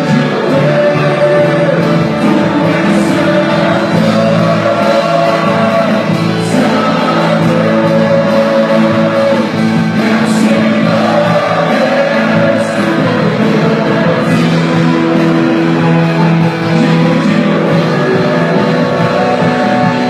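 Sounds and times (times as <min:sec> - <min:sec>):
band playing worship music: 0:00.0 - 0:20.0
people singing: 0:00.0 - 0:20.0.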